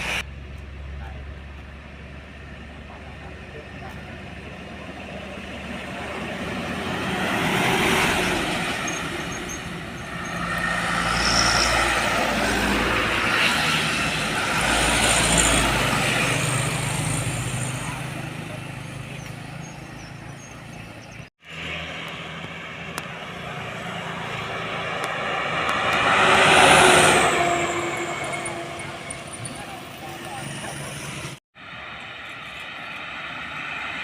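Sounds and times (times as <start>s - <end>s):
heavy vehicles driving past: 0.0s - 34.0s.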